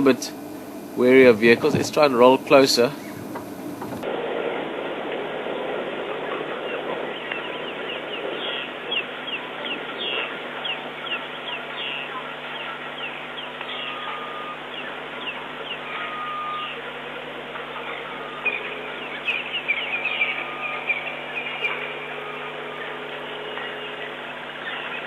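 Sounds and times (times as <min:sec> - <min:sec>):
birds chirping: 0:00.0 - 0:04.1, 0:05.5 - 0:25.0
steady low hum: 0:00.0 - 0:25.0.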